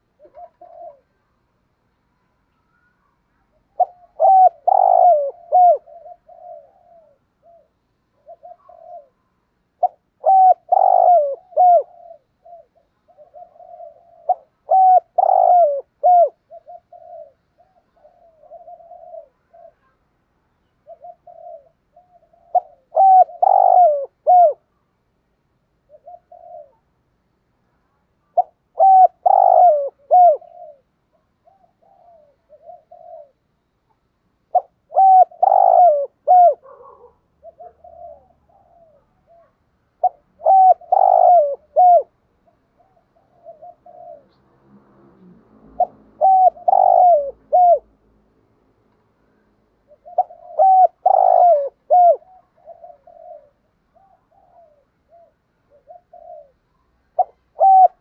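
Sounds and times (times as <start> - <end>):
dove cooing: 0.0 - 1.4, 2.7 - 20.0, 20.7 - 24.8, 25.8 - 27.0, 28.2 - 33.6, 34.5 - 48.0, 49.8 - 58.0.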